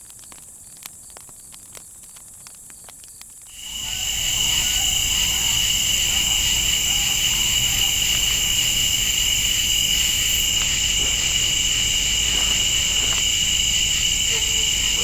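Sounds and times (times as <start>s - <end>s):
crickets and insects chirping: 2.7s - 15.0s.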